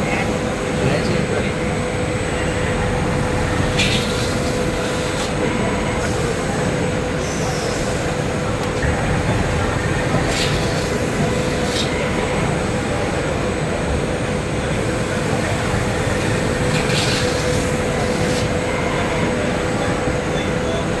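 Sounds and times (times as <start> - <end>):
constant hum: 0.0 - 21.0
industrial machinery running: 0.0 - 21.0.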